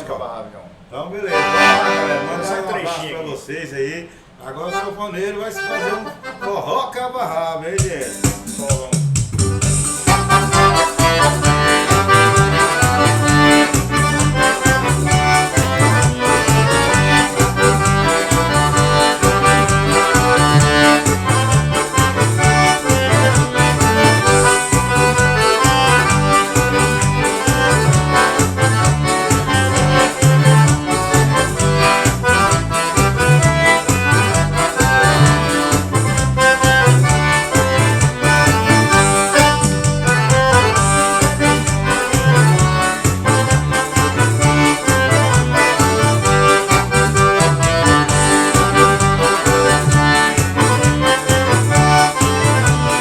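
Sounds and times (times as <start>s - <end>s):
accordion solo: 1.3s - 3.3s, 4.3s - 6.9s, 9.4s - 53.0s
band accompaniment with steady beat: 7.8s - 53.0s.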